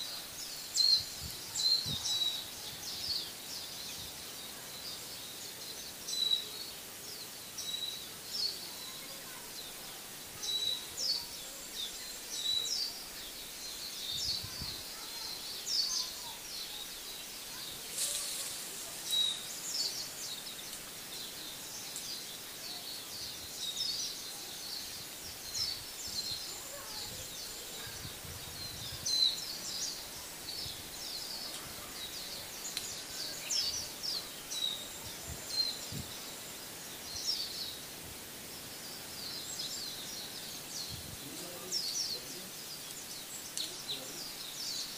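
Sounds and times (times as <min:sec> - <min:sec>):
faint background hiss: 0:00.0 - 0:44.9
small birds chirping: 0:00.0 - 0:44.9.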